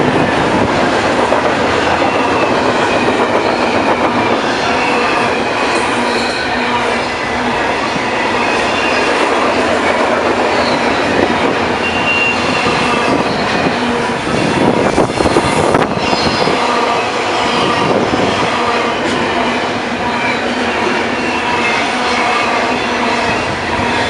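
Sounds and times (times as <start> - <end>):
train rumbling and rattling: 0.0 - 24.0
wheels squealing: 0.2 - 24.0.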